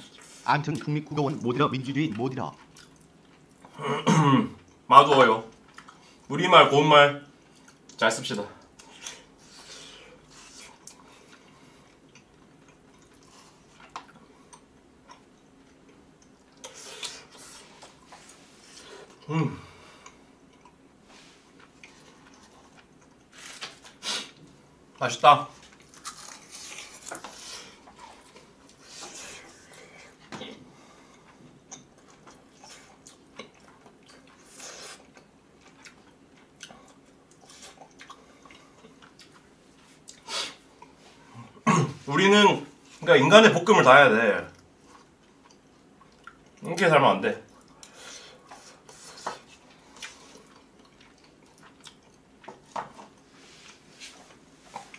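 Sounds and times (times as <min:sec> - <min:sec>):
chewing: 0:00.0 - 0:03.8, 0:05.5 - 0:06.2, 0:08.6 - 0:19.3, 0:20.0 - 0:24.4, 0:25.6 - 0:41.6, 0:44.5 - 0:46.7, 0:47.5 - 0:54.9.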